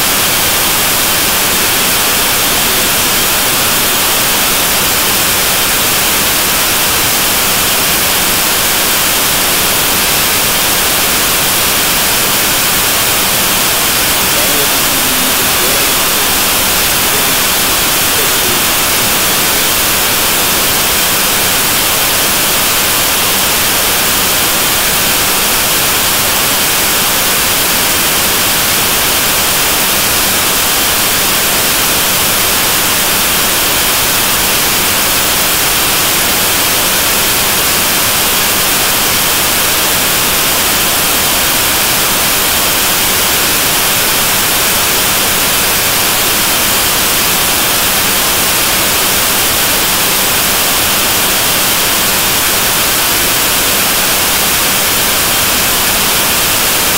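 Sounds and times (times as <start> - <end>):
static-like hiss: 0.0 - 56.9.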